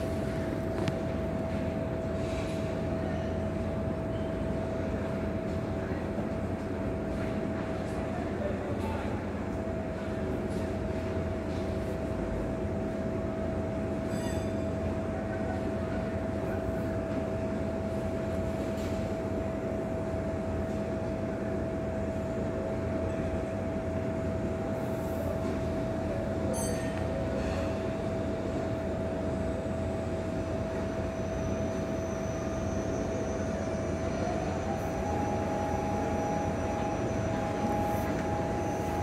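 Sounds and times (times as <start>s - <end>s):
constant mechanical whine: 0.0s - 39.0s
low mechanical hum: 0.0s - 39.0s.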